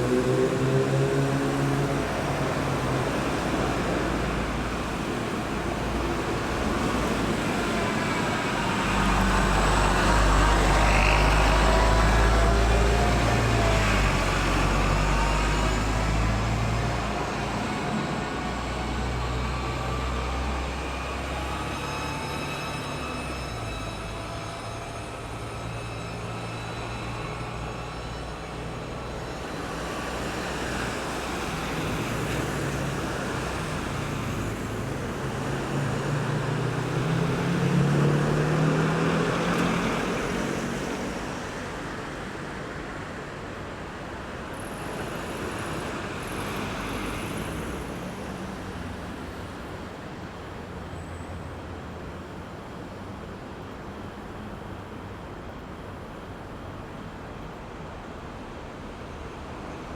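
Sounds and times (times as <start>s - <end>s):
vehicles passing: 0.0s - 22.2s, 26.2s - 57.4s
high engine whine: 0.0s - 59.9s
road traffic rumble: 0.0s - 59.9s.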